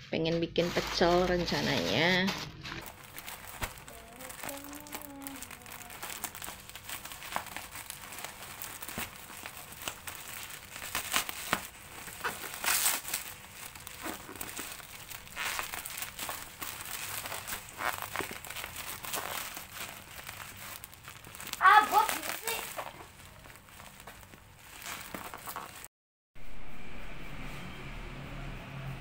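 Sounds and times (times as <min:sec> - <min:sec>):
plastic bag crinkling: 0:00.6 - 0:25.9.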